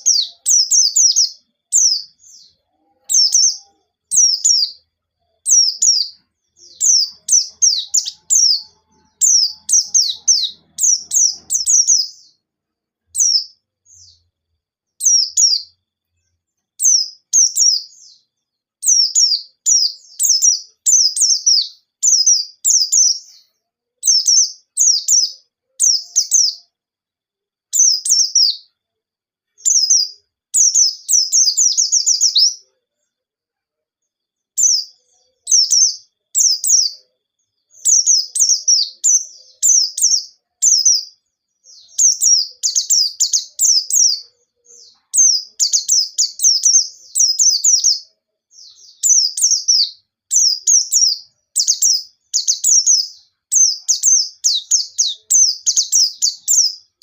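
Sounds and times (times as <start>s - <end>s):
bird chirping: 0.0s - 26.8s, 27.6s - 57.0s.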